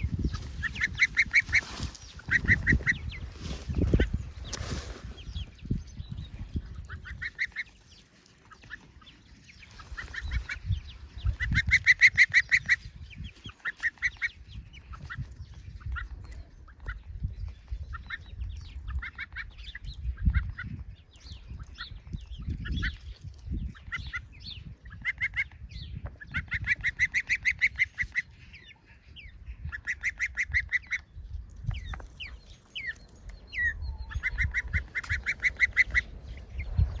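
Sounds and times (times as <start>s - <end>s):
hen calling: 0.0s - 4.8s, 5.6s - 17.2s, 23.7s - 37.0s
gosling calling: 0.0s - 17.2s, 21.5s - 37.0s.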